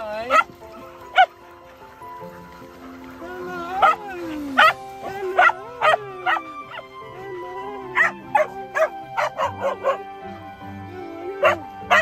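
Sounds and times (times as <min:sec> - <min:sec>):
background music: 0:00.0 - 0:12.0
dogs barking: 0:00.0 - 0:12.0.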